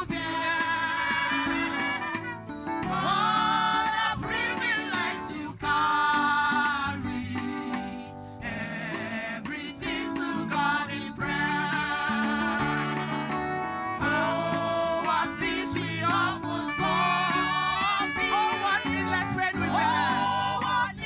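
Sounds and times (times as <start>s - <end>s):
electronic keyboard: 0.0s - 21.0s
group singing gospel praise: 0.0s - 21.0s.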